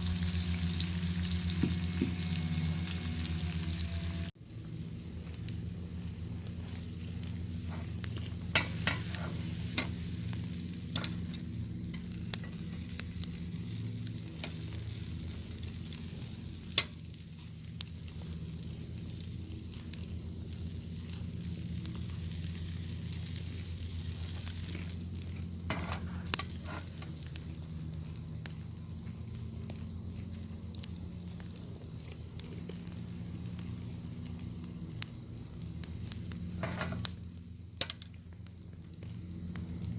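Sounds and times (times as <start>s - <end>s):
bacon sizzling in a pan: 0.0s - 39.9s.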